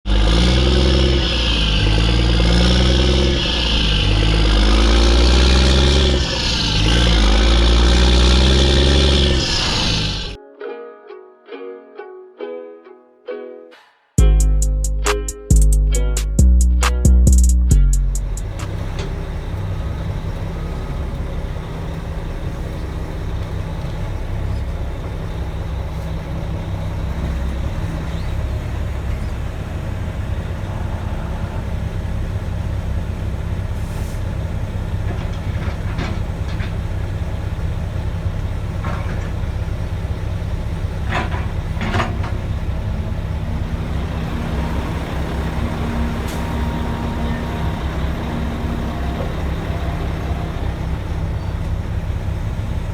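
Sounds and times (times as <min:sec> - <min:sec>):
truck diesel engine rumbling: 0:00.0 - 0:10.4, 0:14.2 - 0:52.9.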